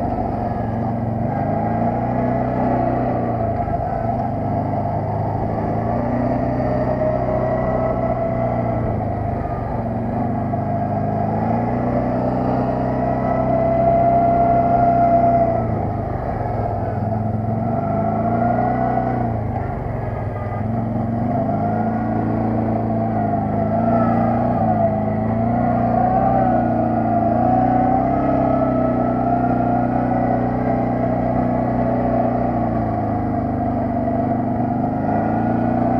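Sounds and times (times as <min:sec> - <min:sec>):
atv engine running: 0:00.0 - 0:35.9.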